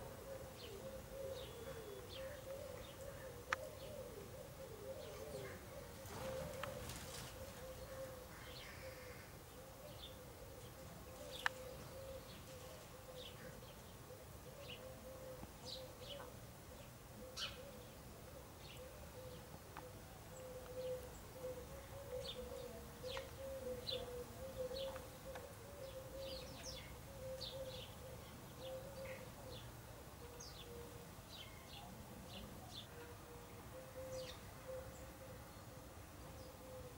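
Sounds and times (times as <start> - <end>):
sparrows chirping: 0.0 - 8.9, 9.9 - 18.0, 18.6 - 33.1, 33.7 - 35.7.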